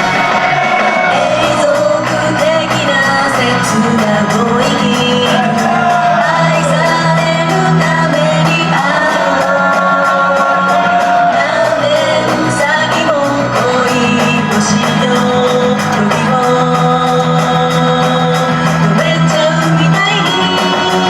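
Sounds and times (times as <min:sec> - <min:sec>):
pop backing track with beat: 0:00.0 - 0:21.0
woman singing: 0:00.8 - 0:21.0.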